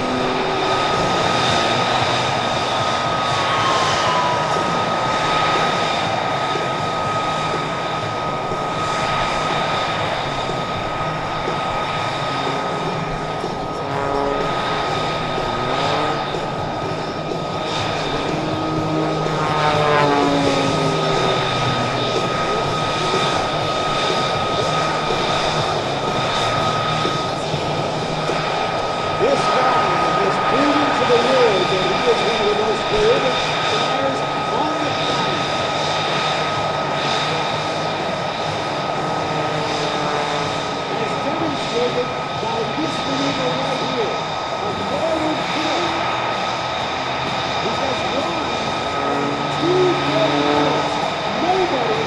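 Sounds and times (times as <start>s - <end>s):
propeller plane engine: 0.0s - 52.0s.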